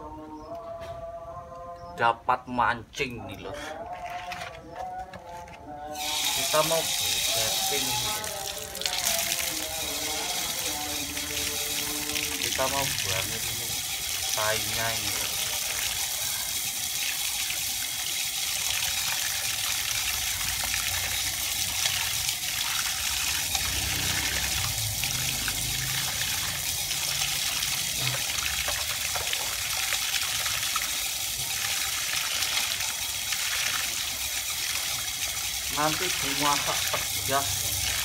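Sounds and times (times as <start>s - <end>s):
hands rinsing eels: 3.8s - 38.0s
water splashing from pipe: 5.9s - 38.0s.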